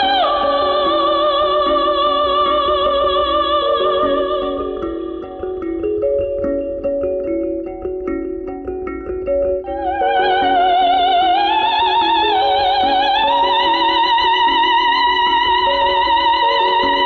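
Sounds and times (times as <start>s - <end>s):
high wavering melody with vibrato: 0.0s - 17.0s.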